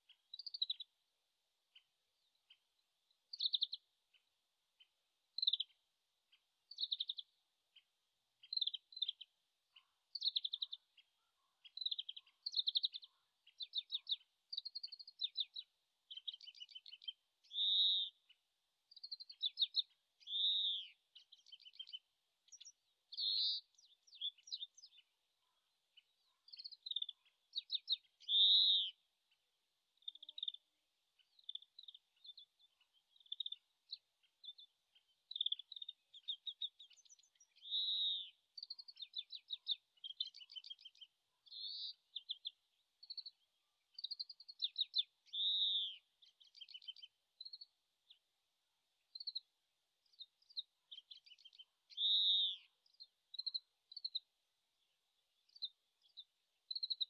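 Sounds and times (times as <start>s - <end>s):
distant finch twittering song: 0.0s - 1.0s, 1.7s - 48.3s, 48.9s - 57.0s.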